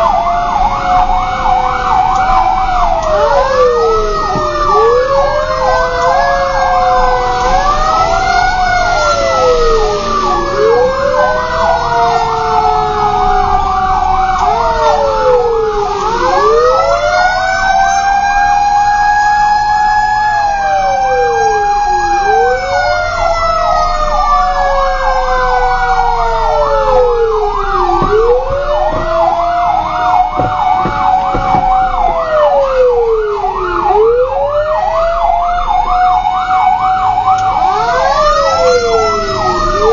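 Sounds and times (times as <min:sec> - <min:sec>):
fast siren yelp: 0:00.0 - 0:39.9
wailing sirens: 0:00.0 - 0:39.9.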